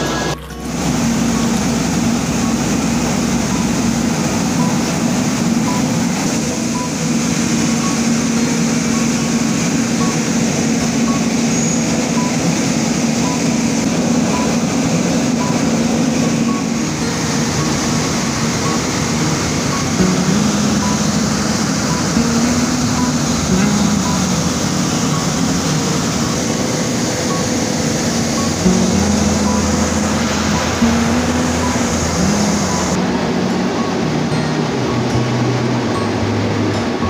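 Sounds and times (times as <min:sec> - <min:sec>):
short high tone: 0:00.0 - 0:03.7, 0:04.6 - 0:37.0
tea processing machinery: 0:00.0 - 0:37.0.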